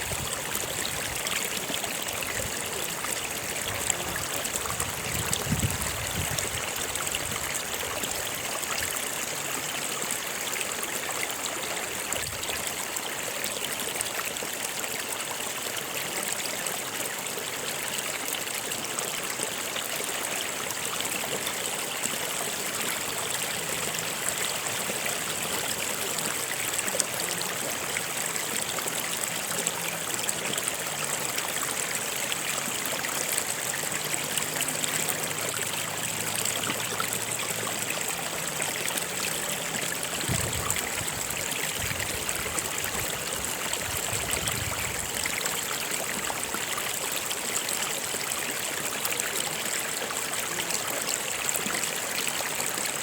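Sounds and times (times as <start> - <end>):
stream water running: 0.0 - 53.0
water splashing and trickling: 0.0 - 53.0.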